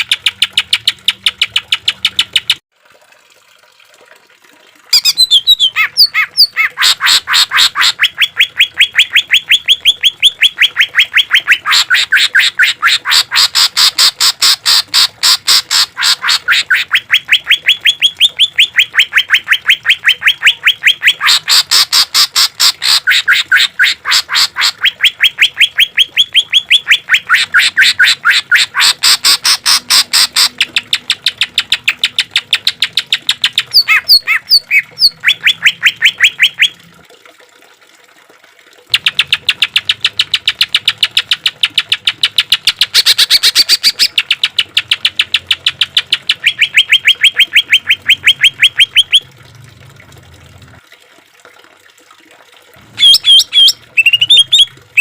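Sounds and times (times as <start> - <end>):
bird singing sharp repeated notes: 5.0 - 36.7, 38.9 - 49.3, 53.0 - 55.0.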